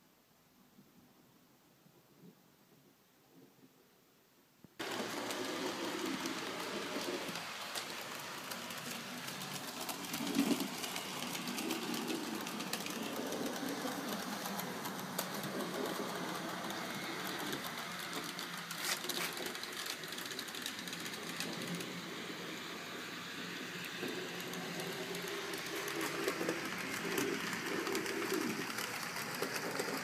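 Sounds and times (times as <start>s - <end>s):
model train motor whirring: 4.8s - 30.0s
wheels clicking over rail joints: 4.8s - 30.0s.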